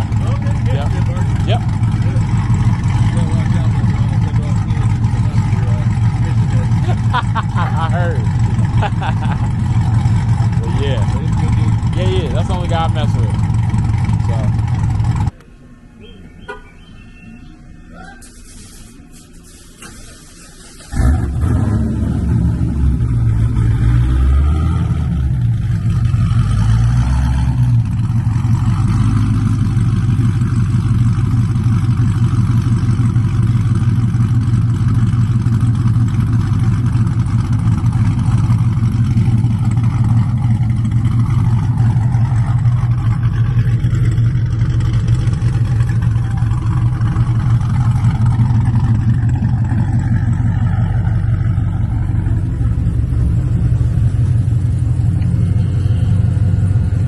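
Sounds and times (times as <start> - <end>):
car engine and exhaust drone: 0.0 - 57.0.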